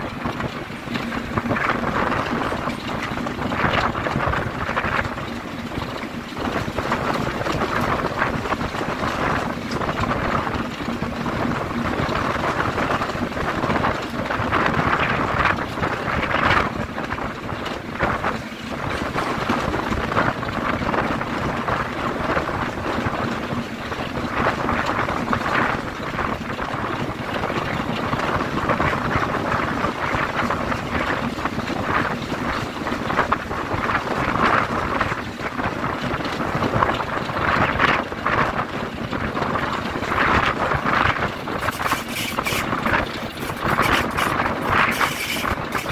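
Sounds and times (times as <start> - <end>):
diesel locomotive drone: 0.0 - 45.9
wind buffeting microphone: 0.0 - 45.9.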